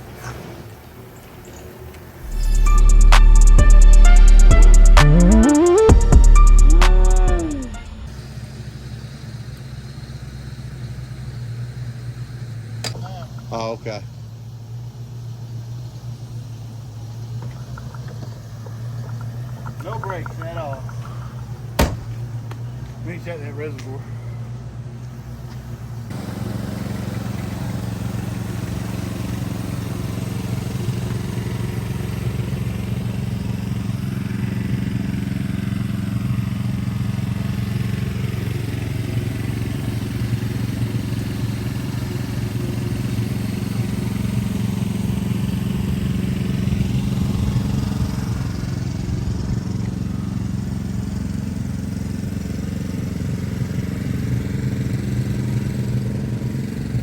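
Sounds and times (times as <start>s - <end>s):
car engine idling: 0.7s - 57.0s.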